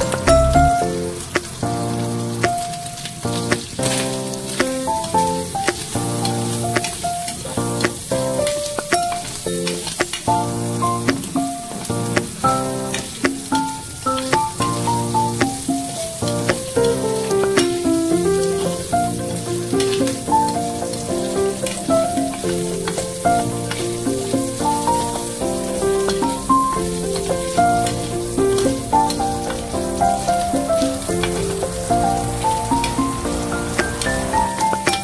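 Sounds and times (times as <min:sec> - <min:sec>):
instrumental background music: 0:00.0 - 0:35.0
meat sizzling in a frying pan: 0:00.1 - 0:35.0.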